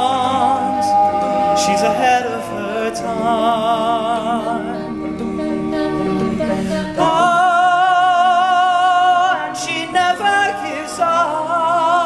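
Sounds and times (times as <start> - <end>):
male a cappella group singing: 0.0 - 12.0.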